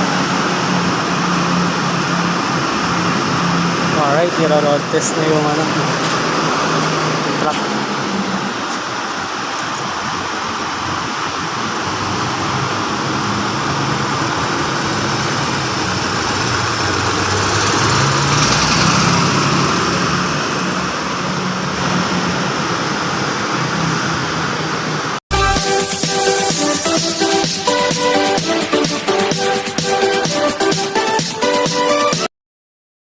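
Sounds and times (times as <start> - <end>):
diesel truck engine running: 0.0 - 31.1.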